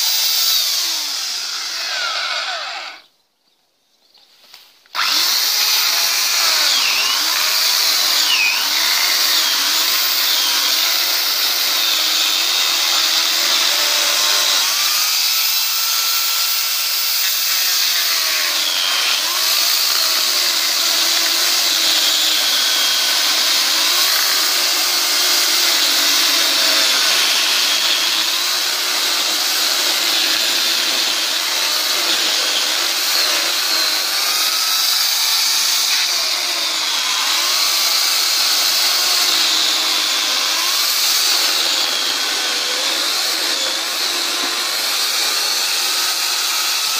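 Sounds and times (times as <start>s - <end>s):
electric chainsaw cutting log: 0.0s - 3.1s, 4.9s - 46.9s.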